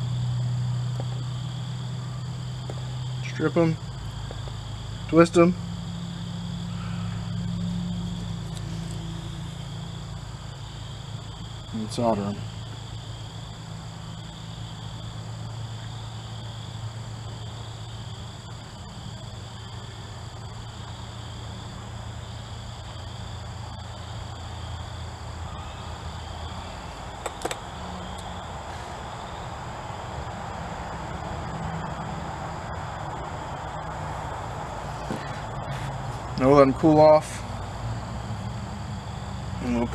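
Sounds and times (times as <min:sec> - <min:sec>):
low hum: 0:00.0 - 0:36.4
high wavering whine: 0:00.0 - 0:39.9.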